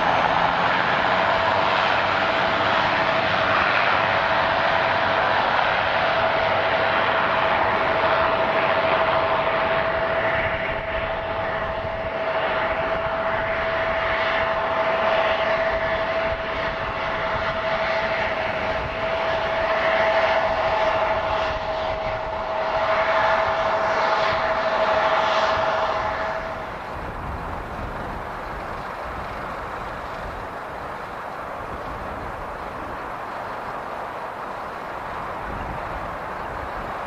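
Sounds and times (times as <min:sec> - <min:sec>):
jet engines whining: 0:00.0 - 0:37.0
rushing noise: 0:00.0 - 0:37.0.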